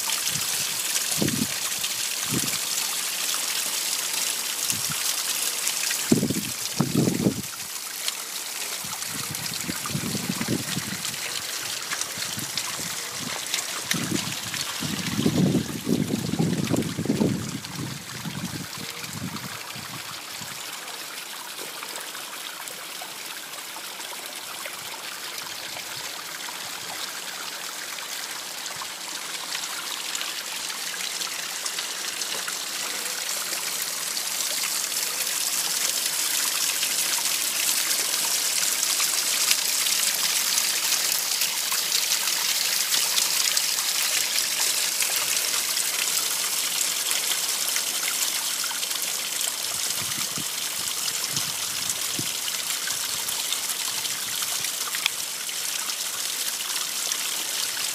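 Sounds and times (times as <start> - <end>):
spring water trickling over rock: 0.0 - 57.9.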